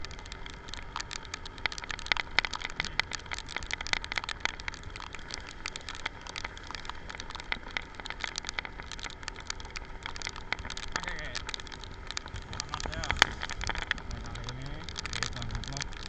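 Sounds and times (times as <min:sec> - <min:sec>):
rain drops ticking on surface: 0:00.0 - 0:16.0.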